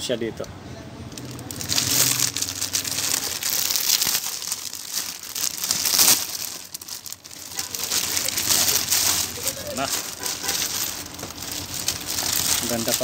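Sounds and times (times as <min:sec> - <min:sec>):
plastic bag crinkling: 0:01.1 - 0:13.0.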